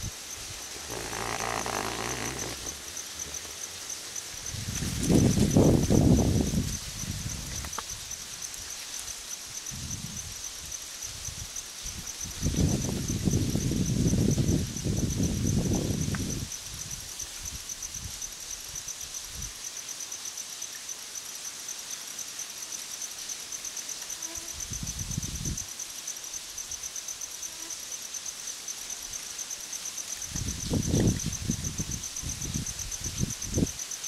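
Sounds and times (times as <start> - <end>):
insect trill: 0.0 - 34.0.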